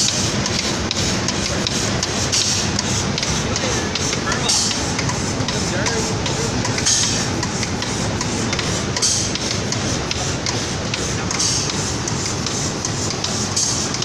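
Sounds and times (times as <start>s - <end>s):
machinery running: 0.0s - 14.0s
air hiss bursts: 1.0s - 14.0s.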